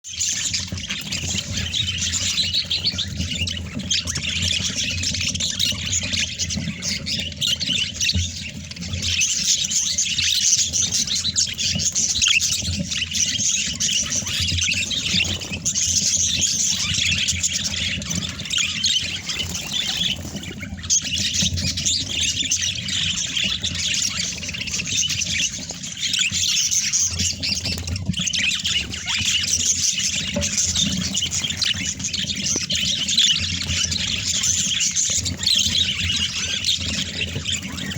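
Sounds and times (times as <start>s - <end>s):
budgerigars chattering: 0.1s - 37.9s.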